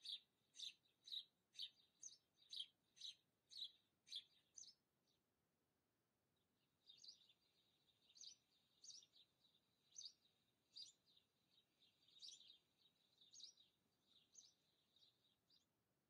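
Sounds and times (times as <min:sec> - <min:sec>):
faint bird chirping: 0:00.0 - 0:05.2, 0:06.4 - 0:15.8.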